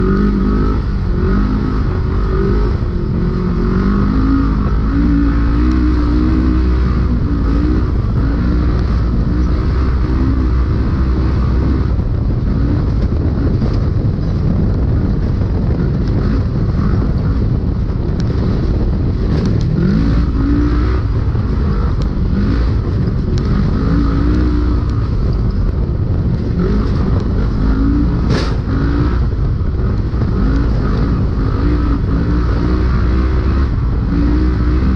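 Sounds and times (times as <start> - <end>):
engine running hard: 0.0 - 34.9.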